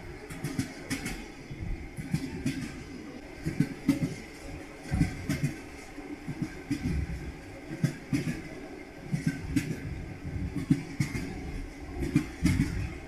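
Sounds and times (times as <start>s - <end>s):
train wheels clattering: 0.0s - 13.0s.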